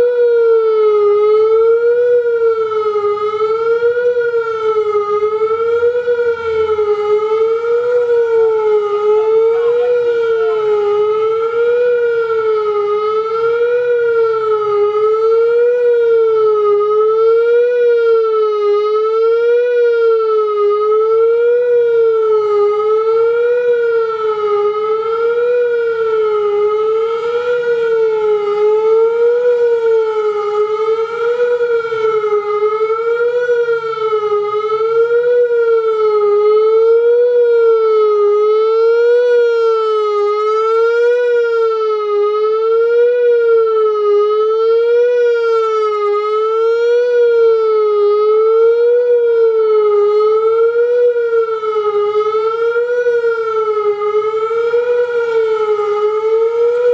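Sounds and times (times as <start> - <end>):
warning siren wailing: 0.0 - 56.9.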